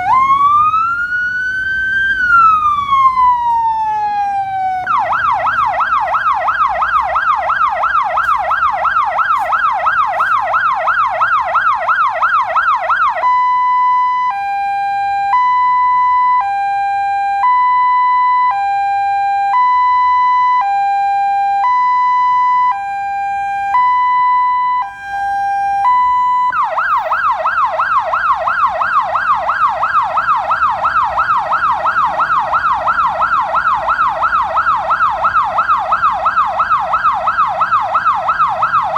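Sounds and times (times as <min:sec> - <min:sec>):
siren yelp: 0:00.0 - 0:38.9
two-tone siren wail: 0:00.0 - 0:38.9.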